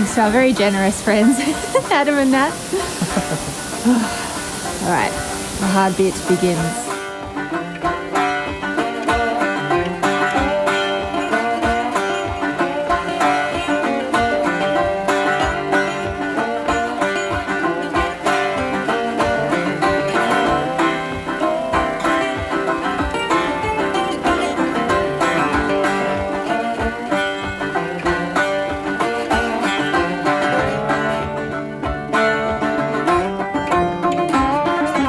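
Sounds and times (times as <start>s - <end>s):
banjo-led bluegrass music: 0.0s - 35.0s.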